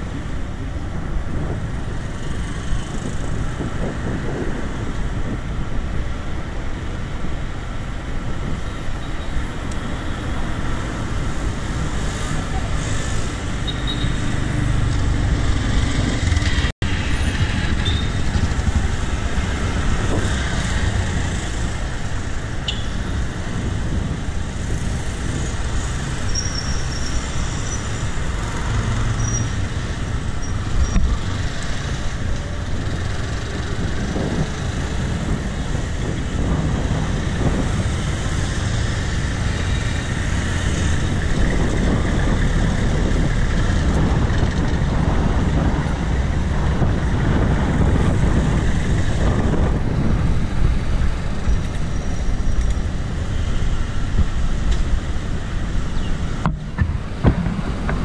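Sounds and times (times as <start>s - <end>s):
road traffic low rumble: 0.0s - 58.0s.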